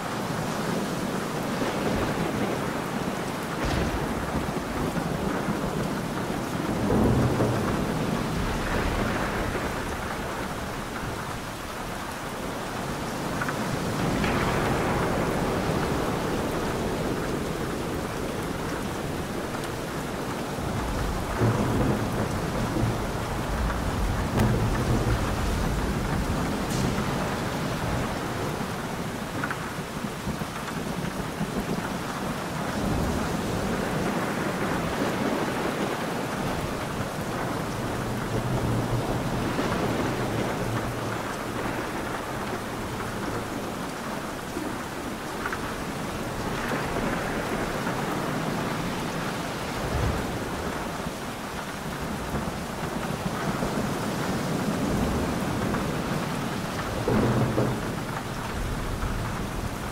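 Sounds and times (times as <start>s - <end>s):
rain falling steadily: 0.0s - 59.9s
thunder rumbling: 1.4s - 59.9s.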